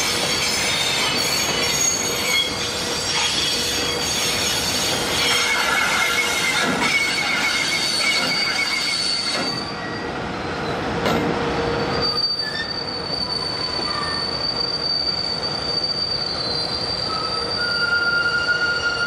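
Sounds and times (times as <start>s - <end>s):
freight train rolling: 0.0s - 19.0s
train wheels squealing: 0.0s - 19.0s.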